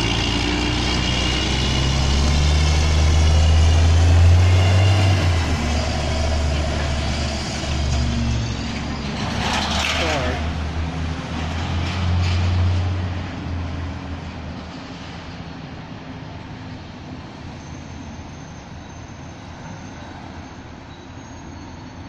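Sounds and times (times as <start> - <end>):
diesel truck accelerating: 0.0 - 18.1.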